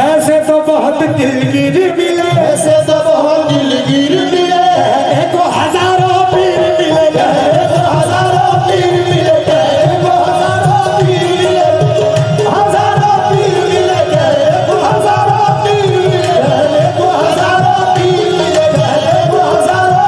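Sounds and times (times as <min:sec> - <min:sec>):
harmonium melody: 0:00.0 - 0:20.0
tabla and dholak rhythm: 0:00.0 - 0:20.0.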